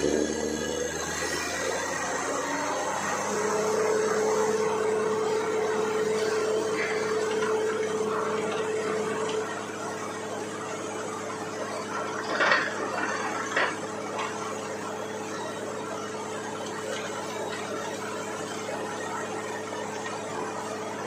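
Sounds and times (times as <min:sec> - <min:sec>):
drilling rig humming: 0:00.0 - 0:21.0.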